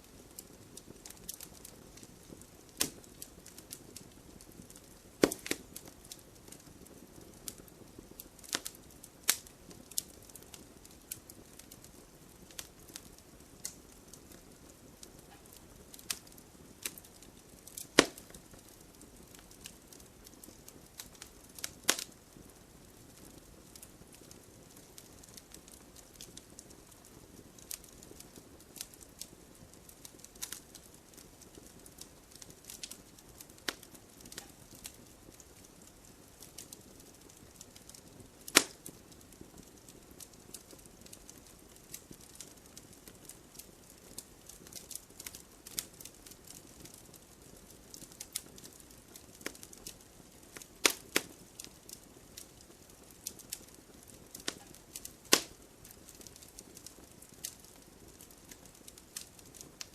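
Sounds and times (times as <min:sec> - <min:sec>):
firewood crackling and popping: 0:00.0 - 0:59.9
low steady hiss: 0:00.0 - 0:59.9.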